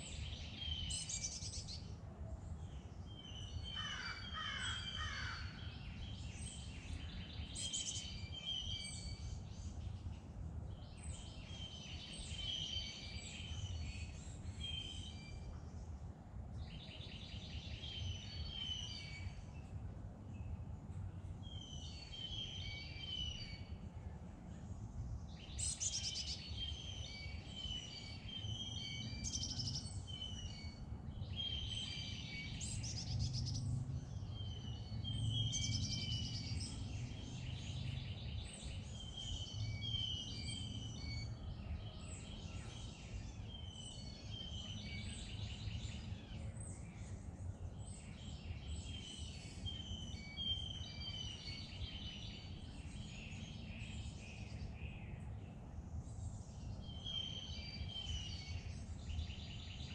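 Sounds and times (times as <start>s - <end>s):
songbirds chorus: 0.0s - 59.9s.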